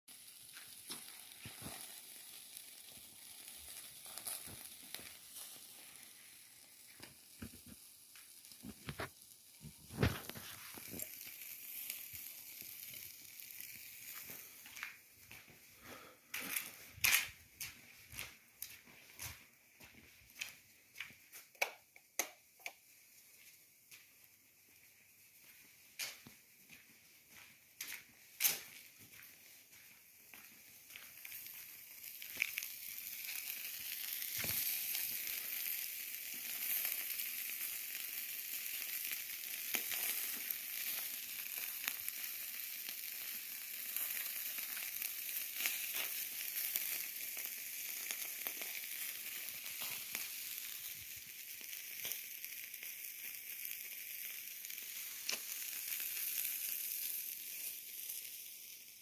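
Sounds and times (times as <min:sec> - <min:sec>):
chicken sizzling with pops: 0:00.1 - 0:59.0.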